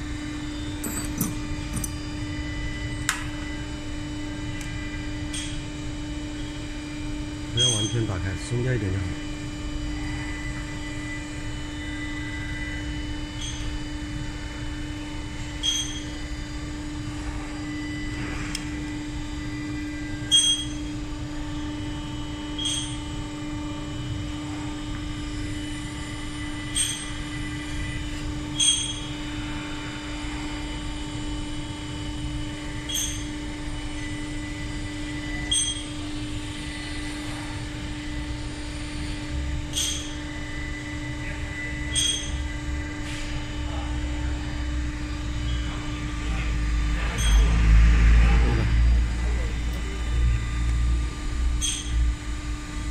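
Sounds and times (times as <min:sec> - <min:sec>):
machine humming: 0:00.0 - 0:43.0, 0:44.0 - 0:52.9.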